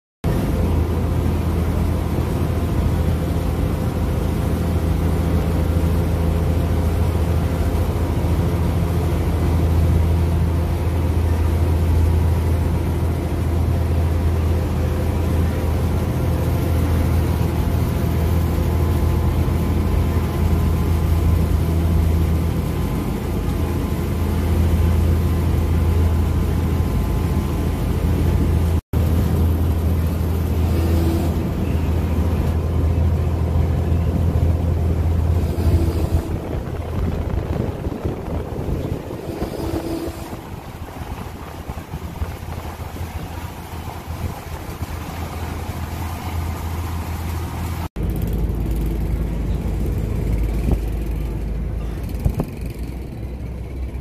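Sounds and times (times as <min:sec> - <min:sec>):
ferry engine droning: 0:00.2 - 0:54.0.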